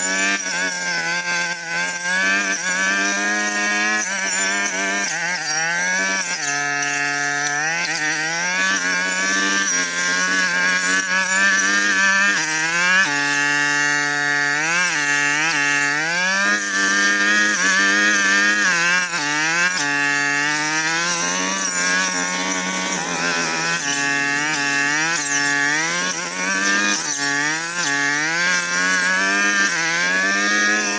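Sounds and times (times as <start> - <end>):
brush cutter engine cutting: 0.0 - 30.9.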